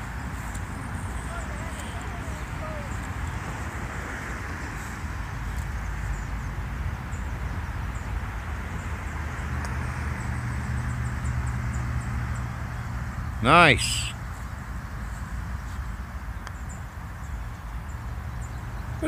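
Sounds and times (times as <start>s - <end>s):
small birds chirping: 0.0s - 3.9s, 4.8s - 19.0s
vehicle hum on road: 0.0s - 19.0s.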